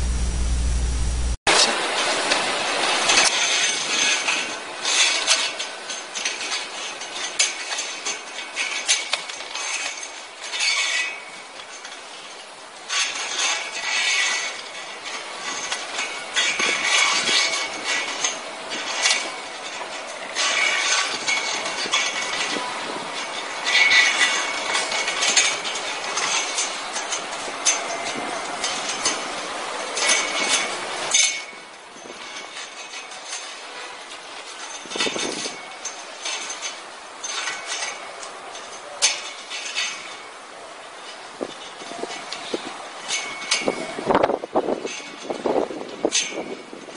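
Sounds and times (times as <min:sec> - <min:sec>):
plastic wire rustling and scraping: 0:02.0 - 0:46.9.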